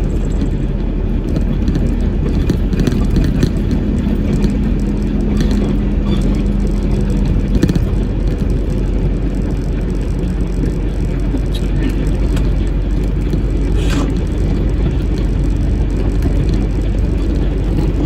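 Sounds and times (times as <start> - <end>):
engine and road drone: 0.0 - 18.0
steady hum: 0.0 - 18.0.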